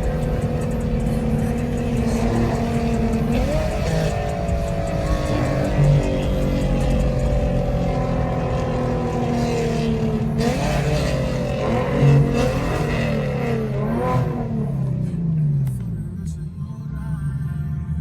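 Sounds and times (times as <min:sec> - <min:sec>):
car exhaust while driving: 0:00.0 - 0:16.6.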